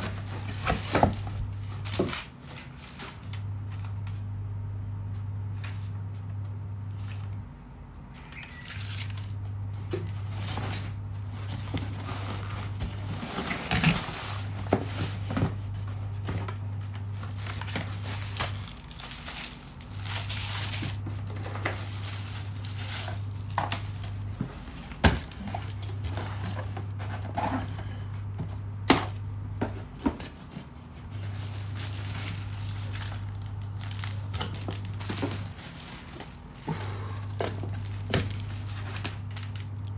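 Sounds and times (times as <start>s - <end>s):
plastic packaging rustling: 0.0s - 3.9s, 8.3s - 28.0s, 29.6s - 39.9s
steady low hum: 0.0s - 39.9s.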